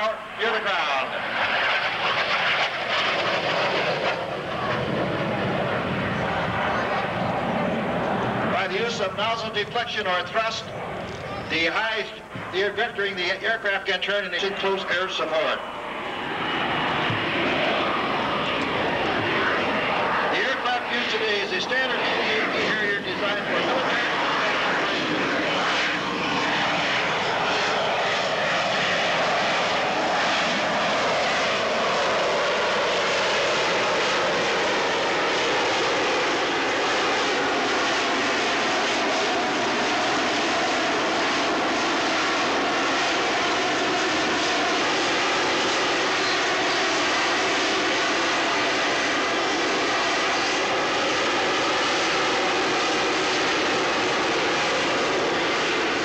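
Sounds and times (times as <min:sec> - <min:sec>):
jet engine rush with whine: 0:00.0 - 0:56.0.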